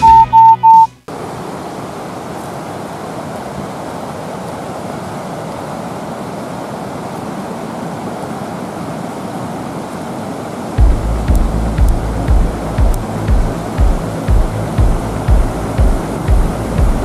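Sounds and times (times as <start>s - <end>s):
whitewater rapids roaring: 1.1s - 17.0s.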